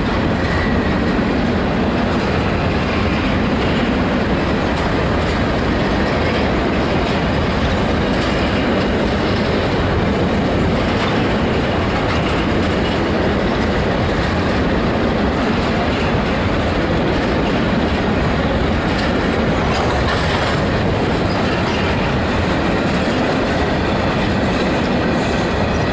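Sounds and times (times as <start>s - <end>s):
steel train wheels on rails: 0.0s - 25.9s.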